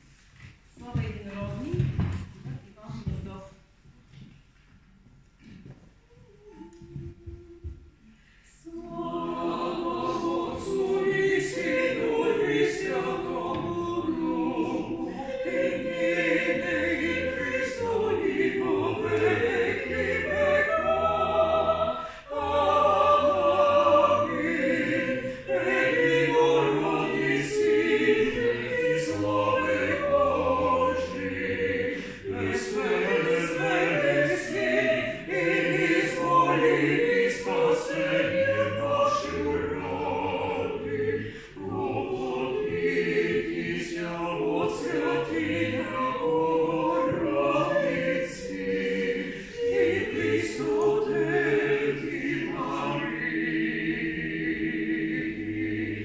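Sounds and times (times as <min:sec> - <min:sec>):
vocal group singing a cappella: 0:06.4 - 0:56.0.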